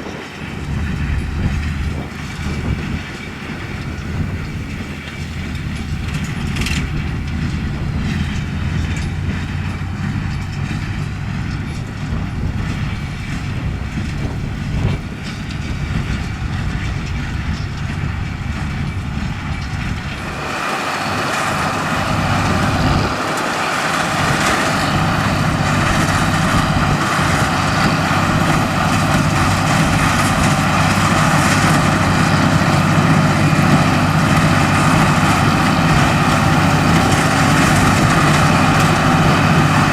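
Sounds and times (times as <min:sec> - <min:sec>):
heavy machinery engine running: 0:00.0 - 0:39.9
high-pitched mechanical clatter: 0:00.0 - 0:39.9.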